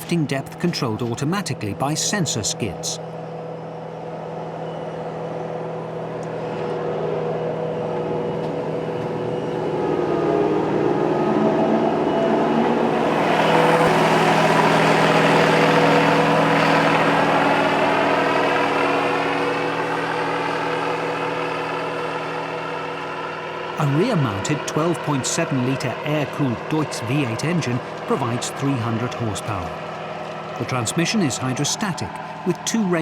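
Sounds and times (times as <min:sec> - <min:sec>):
harvester engine and machinery: 0:00.0 - 0:33.0.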